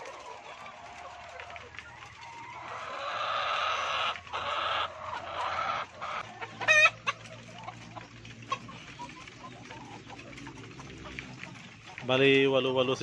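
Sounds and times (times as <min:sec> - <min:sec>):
hens calling loudly: 0:00.0 - 0:13.0.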